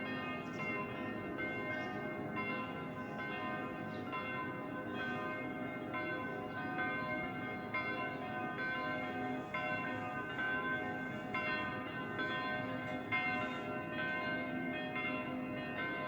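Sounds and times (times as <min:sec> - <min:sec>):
church bells pealing: 0:00.0 - 0:16.0.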